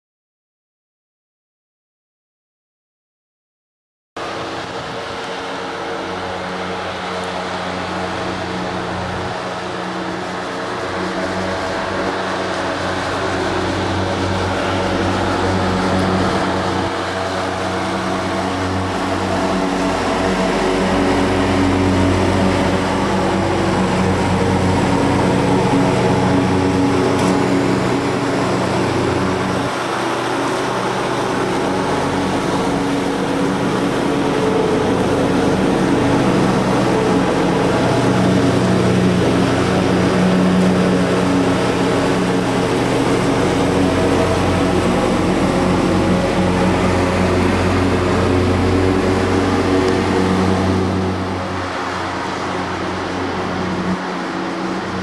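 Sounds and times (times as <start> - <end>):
leaf vacuum motor running: 4.2 - 55.0.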